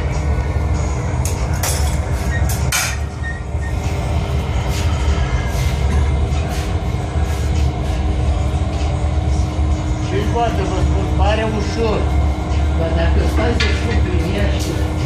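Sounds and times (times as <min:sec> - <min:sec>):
constant hum: 0:00.0 - 0:15.0
furnace burner low rumble: 0:00.0 - 0:15.0.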